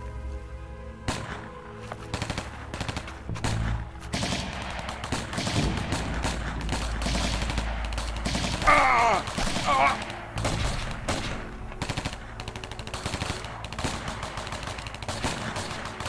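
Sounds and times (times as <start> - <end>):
automatic rifle gunfire: 2.1 - 16.0.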